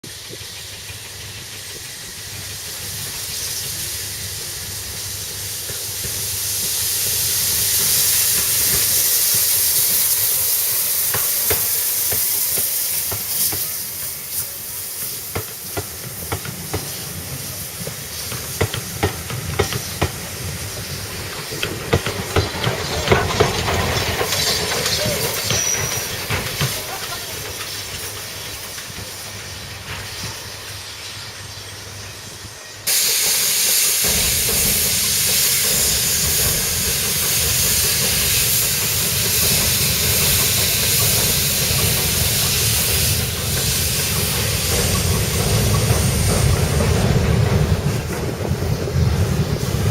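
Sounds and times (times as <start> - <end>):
steam locomotive hissing: 0.0 - 49.9.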